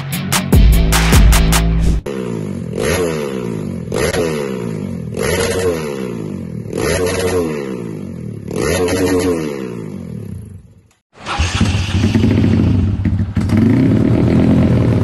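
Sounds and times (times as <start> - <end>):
motorbike engine revving: 2.0 - 15.0.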